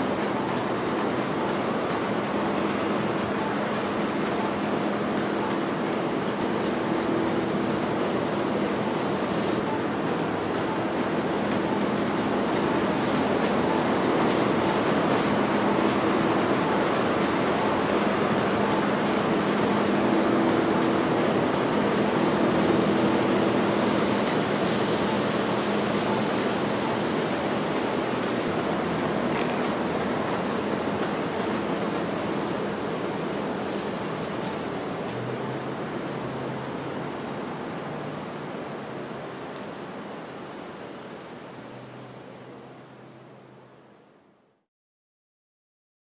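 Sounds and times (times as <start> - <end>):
traffic noise: 0.0 - 44.6.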